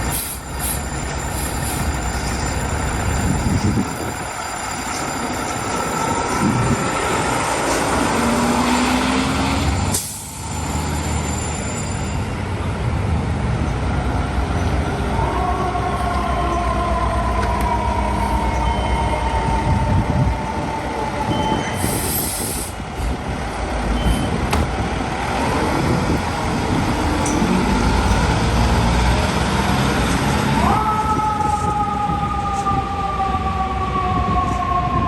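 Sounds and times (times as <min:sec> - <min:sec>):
truck engine rumble: 0:00.0 - 0:33.2
street traffic rumble: 0:00.0 - 0:35.0
fire truck siren wailing: 0:00.2 - 0:11.8, 0:14.8 - 0:23.4, 0:25.0 - 0:35.0.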